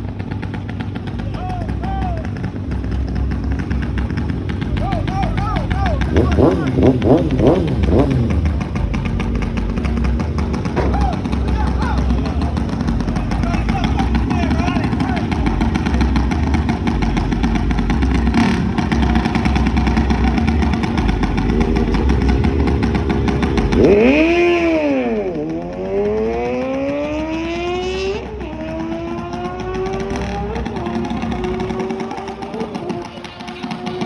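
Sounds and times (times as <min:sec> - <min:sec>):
mini bike engines revving: 0:00.0 - 0:34.0.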